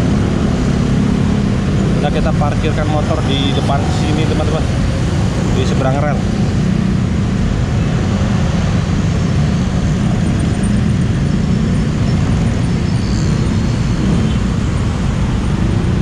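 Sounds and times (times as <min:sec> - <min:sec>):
motorbike engines rumbling: 0:00.0 - 0:16.0
road noise: 0:00.0 - 0:16.0.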